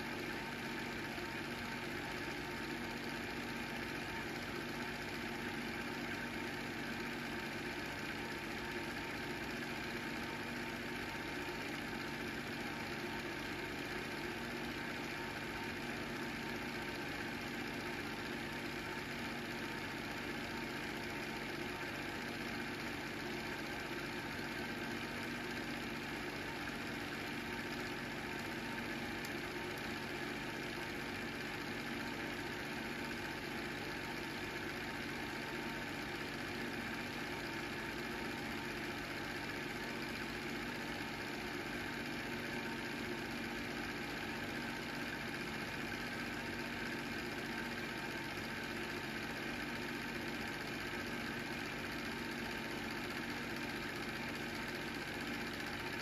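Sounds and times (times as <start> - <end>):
film projector running: 0.0 - 56.0.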